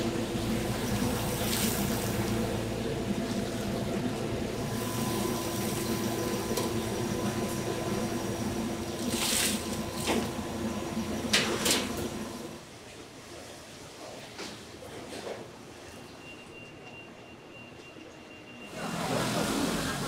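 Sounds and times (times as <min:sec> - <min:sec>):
workshop machinery hum: 0:00.0 - 0:20.0.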